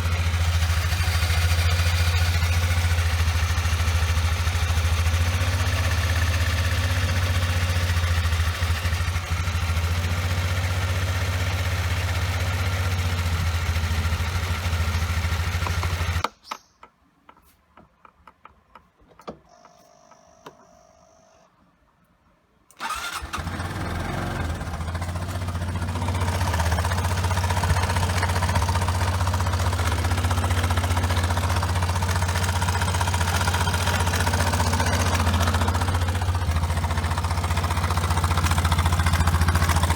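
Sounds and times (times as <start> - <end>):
scooter engine idling: 0.0 - 16.2, 22.8 - 39.9.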